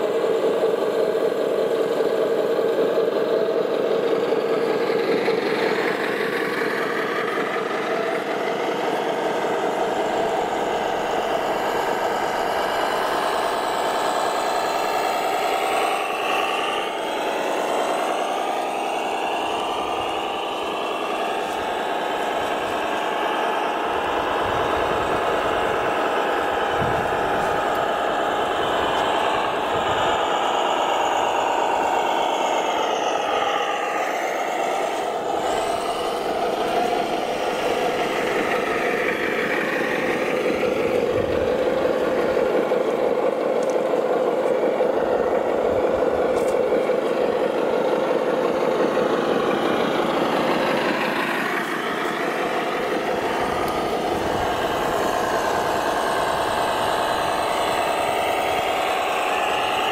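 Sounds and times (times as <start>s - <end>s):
rc truck motors whining: 0.0s - 59.9s.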